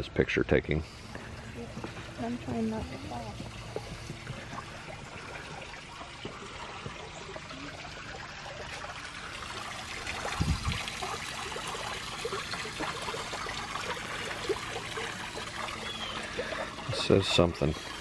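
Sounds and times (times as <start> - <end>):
fountain water trickling: 0.0 - 18.0.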